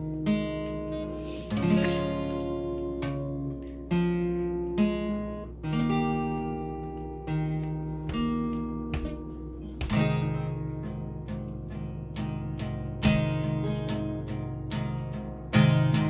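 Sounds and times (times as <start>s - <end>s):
acoustic guitar strummed slowly: 0.0s - 16.0s.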